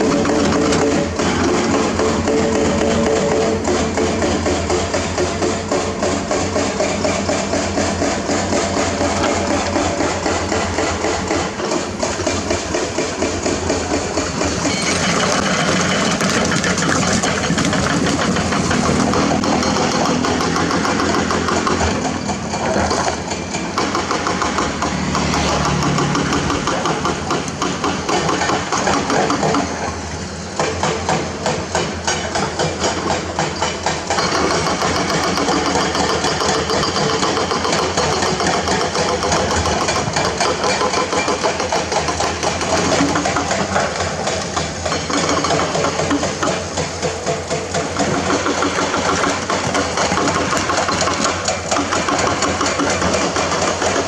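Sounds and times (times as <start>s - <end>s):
diesel engine running: 0.0s - 54.0s
hydraulic breaker hammering rock: 0.0s - 54.0s.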